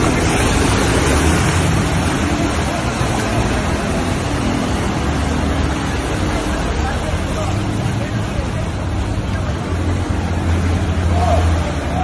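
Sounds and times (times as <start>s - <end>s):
floodwater rushing: 0.0s - 12.0s
heavy rain: 0.0s - 12.0s.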